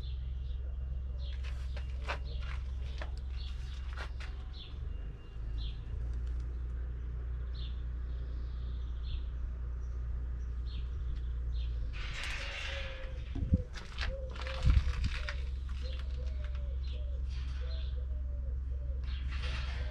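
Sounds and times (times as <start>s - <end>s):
bird chirping: 0.0s - 19.6s
steady low hum: 0.0s - 19.9s.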